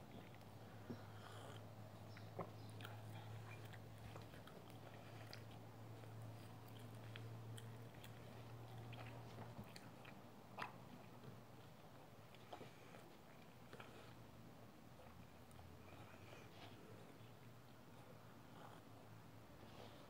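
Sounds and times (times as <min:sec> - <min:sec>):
chewing bread: 0:00.0 - 0:19.1
steady low hum: 0:00.0 - 0:20.0.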